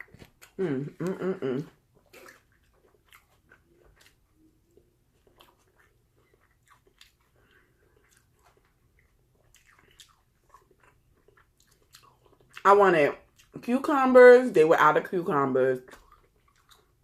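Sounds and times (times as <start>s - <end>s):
faint chewing: 0.0s - 13.7s, 15.8s - 17.0s.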